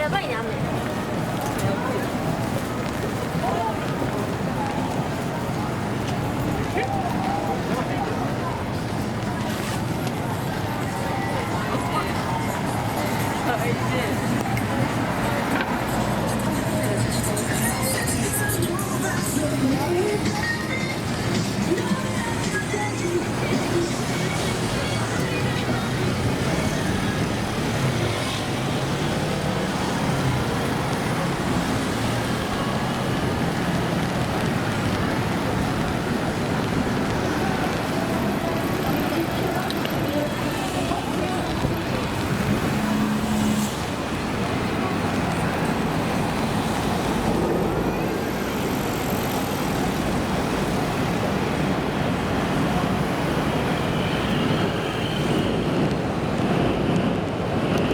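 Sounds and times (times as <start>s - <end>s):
road traffic noise: 0.0s - 57.9s.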